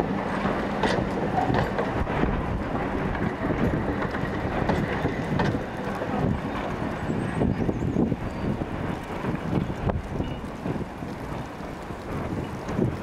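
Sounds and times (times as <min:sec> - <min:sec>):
train wheels rumbling and knocking: 0:00.0 - 0:13.0
wind buffeting microphone: 0:00.0 - 0:13.0.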